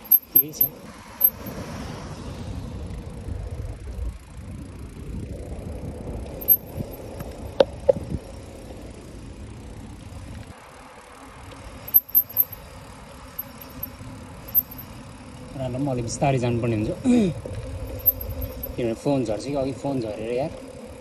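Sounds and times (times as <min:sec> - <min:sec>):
wind: 0:00.0 - 0:21.0
bicycle tyres rumbling on asphalt: 0:01.0 - 0:11.9, 0:12.6 - 0:21.0.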